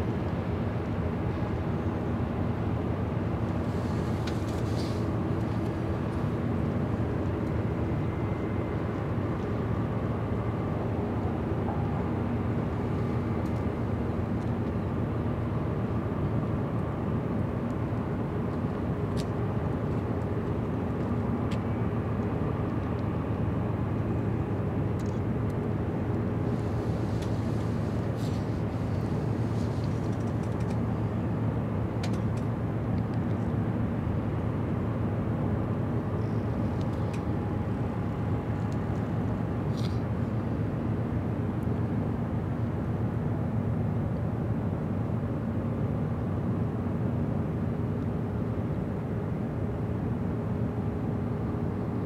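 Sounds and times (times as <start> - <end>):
ship diesel engines droning: 0.0 - 52.0.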